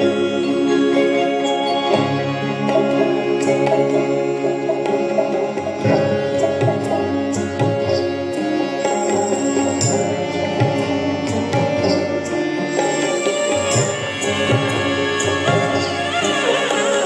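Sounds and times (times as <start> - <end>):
harmonium: 0.0 - 17.0
keyboard holding notes: 0.0 - 17.0
tabla beat: 1.9 - 17.0.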